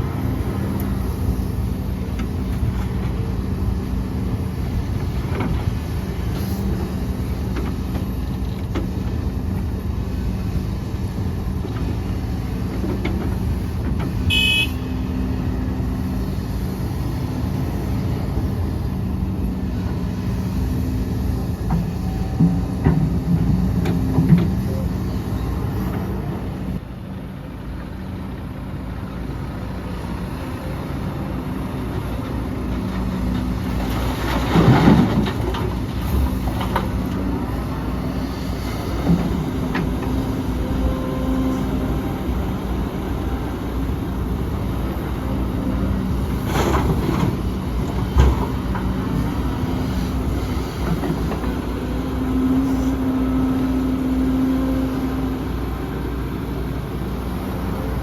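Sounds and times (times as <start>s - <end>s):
diesel machinery engine hum: 0.0s - 58.0s.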